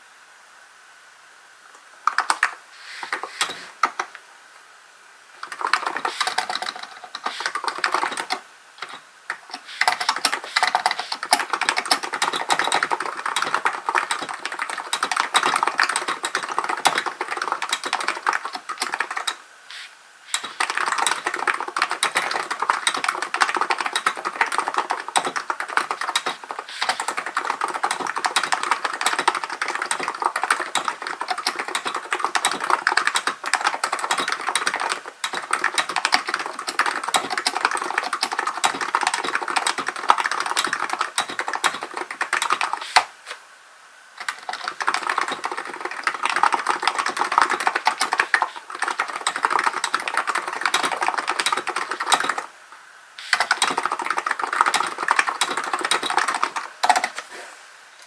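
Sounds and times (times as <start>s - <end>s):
keyboard typing: 2.1s - 4.2s, 5.4s - 19.4s, 20.4s - 43.1s, 44.2s - 52.5s, 53.2s - 57.2s.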